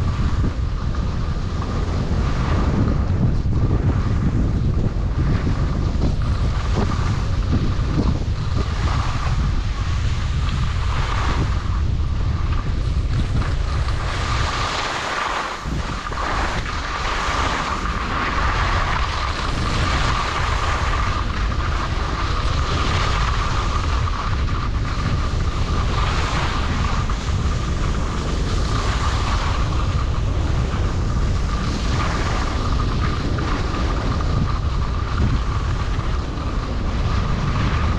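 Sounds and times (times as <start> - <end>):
low rumble: 0.0 - 37.9
skis sliding on snow: 0.0 - 37.9
wind buffeting microphone: 0.0 - 37.9.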